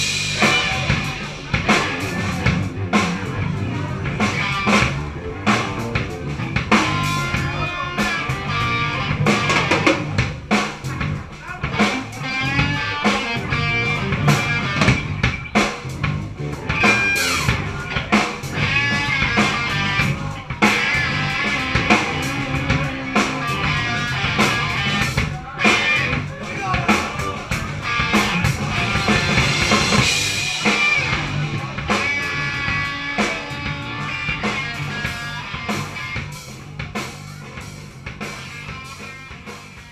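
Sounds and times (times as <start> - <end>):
electric guitar lead line: 0.0 - 39.9
steady drum-kit beat: 0.0 - 39.9.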